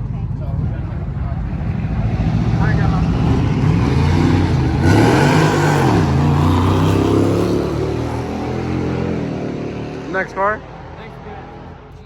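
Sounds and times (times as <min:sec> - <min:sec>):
car engine running loudly: 0:00.0 - 0:12.0.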